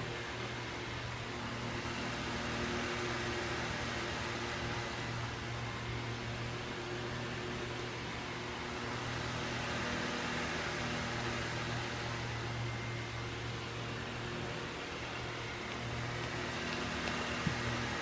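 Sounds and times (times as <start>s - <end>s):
low machine hum with hiss: 0.0s - 18.0s.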